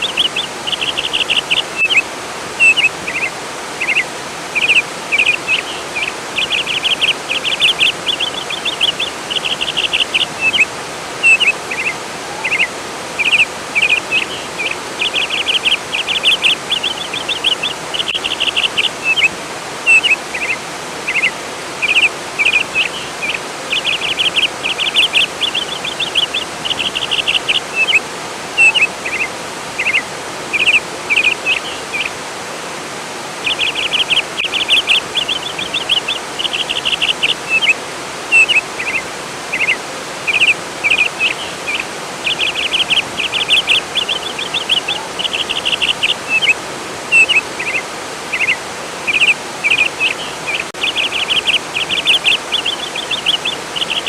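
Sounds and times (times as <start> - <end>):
flowing water rushing: 0.0 - 54.0
songbird singing: 0.0 - 54.0.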